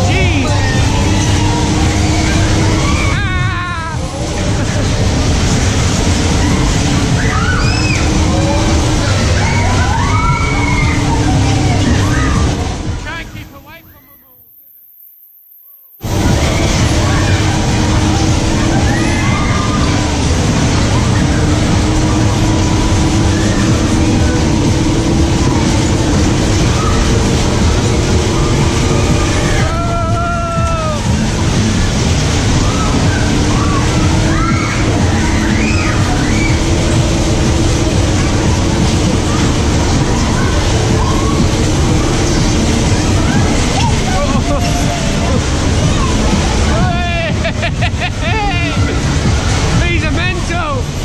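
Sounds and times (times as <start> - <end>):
whooping cry: 0.0 - 4.7, 6.3 - 12.6, 16.1 - 49.3
funfair music: 0.0 - 14.4, 16.0 - 51.0
voices shouting: 0.0 - 14.4, 16.0 - 51.0
funfair noise: 0.0 - 51.0.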